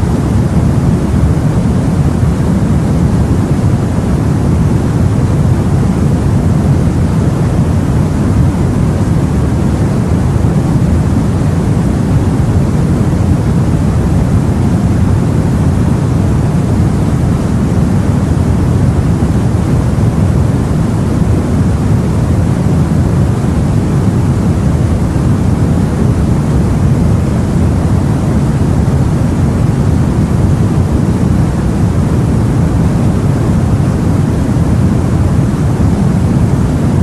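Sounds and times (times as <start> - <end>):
low rumbling sea: 0.0 - 37.0
wind noise: 0.0 - 37.0.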